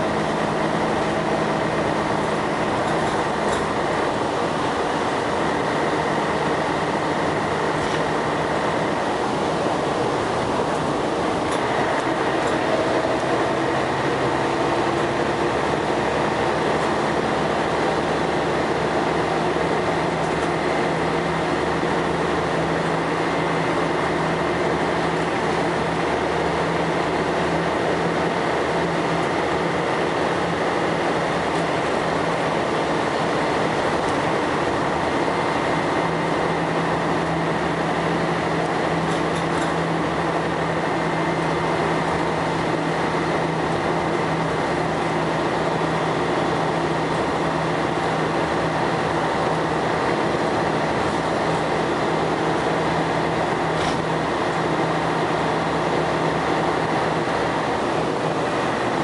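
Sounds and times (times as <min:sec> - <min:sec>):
bus diesel engine running: 0:00.0 - 0:59.0
road rumble: 0:00.0 - 0:59.0.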